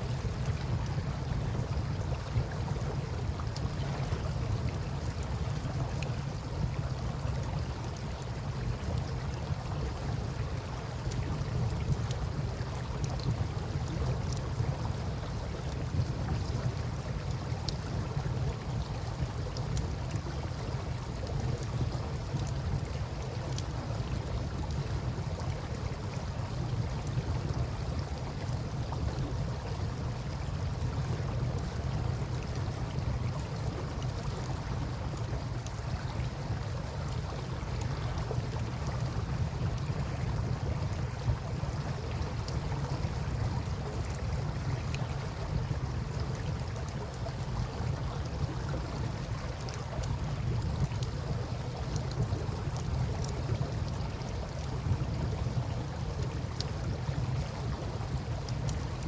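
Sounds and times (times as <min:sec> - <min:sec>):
river water flowing: 0:00.0 - 0:59.0
campfire crackling: 0:00.1 - 0:59.0.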